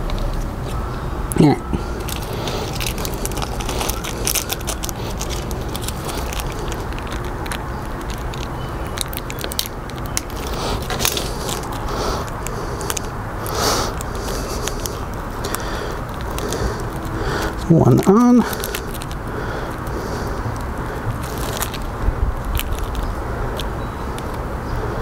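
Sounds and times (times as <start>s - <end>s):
low background rumble: 0.0s - 25.0s
small metal parts clicking: 2.0s - 24.5s.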